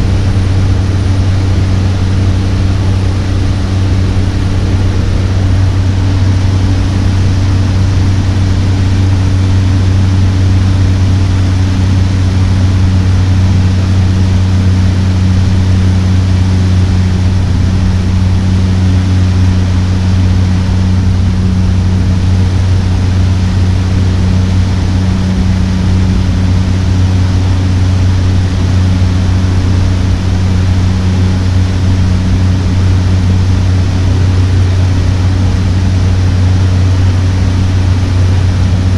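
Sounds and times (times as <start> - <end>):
turboprop engine droning in cabin: 0.0 - 38.9.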